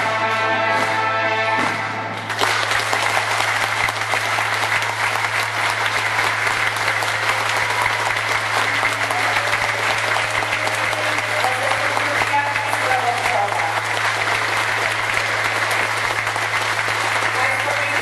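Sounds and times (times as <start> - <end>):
audience applauding: 2.1 - 18.0.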